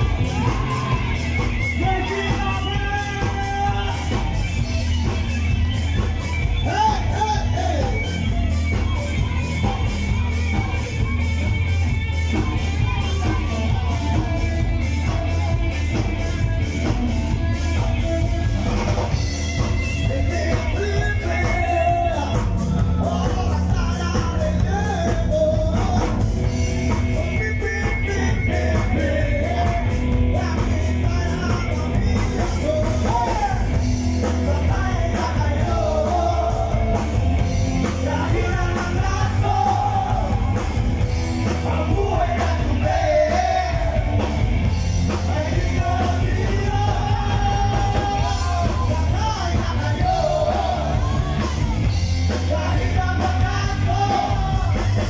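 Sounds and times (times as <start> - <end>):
rock song with singing: 0.0 - 55.0.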